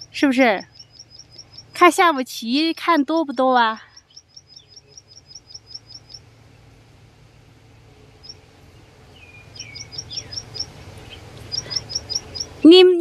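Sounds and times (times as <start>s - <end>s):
songbird chirping: 0.0s - 12.8s
low steady rumble: 0.0s - 13.0s.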